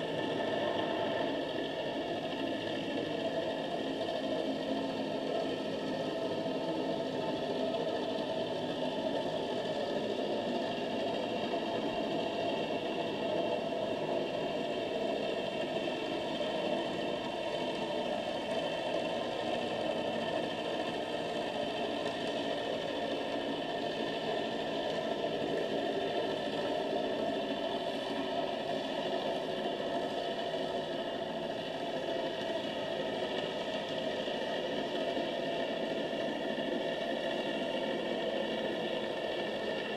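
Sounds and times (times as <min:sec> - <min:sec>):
underwater hum and hiss: 0:00.0 - 0:39.9.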